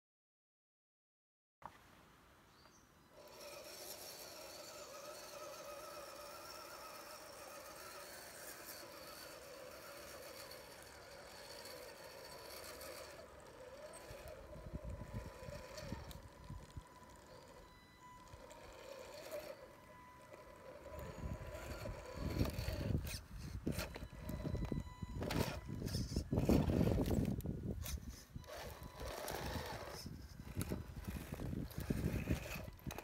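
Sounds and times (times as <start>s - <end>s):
electric motor whining: 3.1s - 33.0s.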